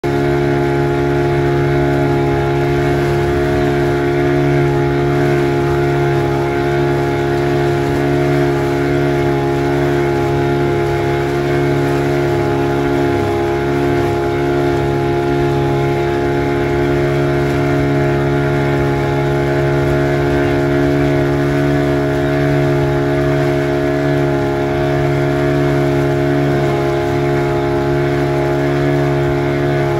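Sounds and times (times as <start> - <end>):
motorboat engine drone: 0.0 - 29.9.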